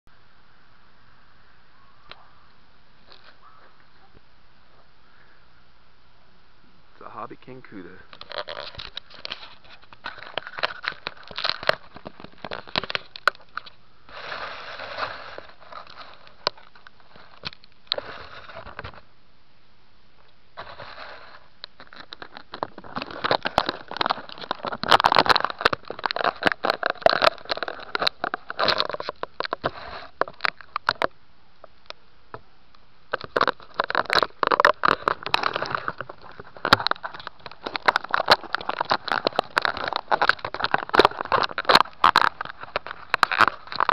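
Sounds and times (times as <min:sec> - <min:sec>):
handling noise on microphone: 0:02.0 - 0:04.9, 0:07.0 - 0:19.1, 0:20.2 - 0:32.5, 0:33.1 - 0:43.9.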